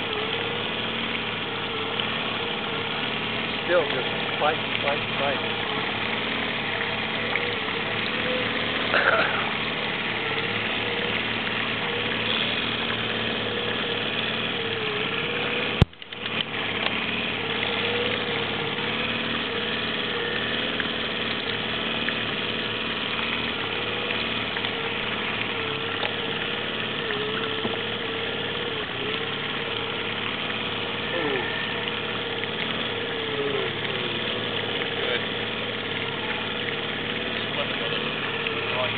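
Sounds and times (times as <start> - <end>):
boat motor humming: 0.0 - 38.9.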